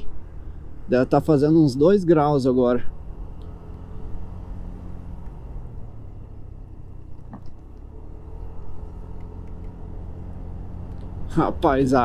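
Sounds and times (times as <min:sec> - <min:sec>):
motorcycle engine hum: 0:00.0 - 0:12.0
road and wind noise: 0:00.0 - 0:12.0.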